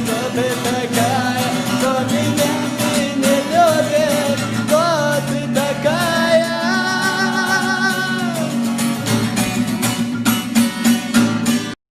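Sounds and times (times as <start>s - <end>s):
strummed acoustic guitar: 0.0s - 11.8s.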